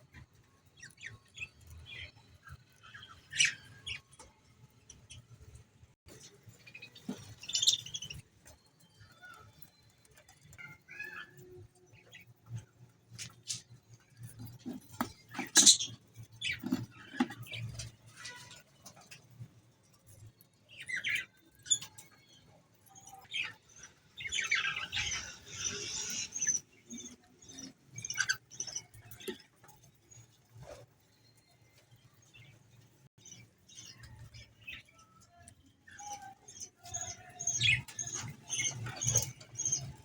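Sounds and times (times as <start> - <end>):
cockatiels chirping and chattering: 0.1 - 5.5, 6.2 - 19.5, 20.4 - 30.8, 33.2 - 40.0.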